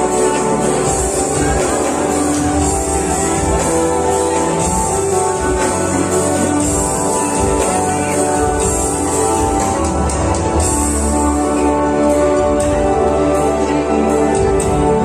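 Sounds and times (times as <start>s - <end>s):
melodic music with bass line: 0.0s - 15.0s.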